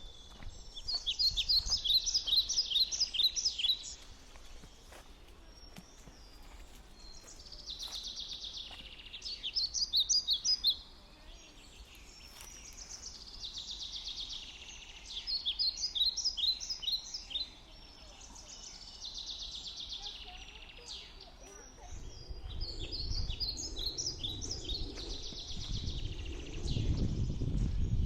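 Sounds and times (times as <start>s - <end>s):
small birds singing: 0.0s - 28.0s.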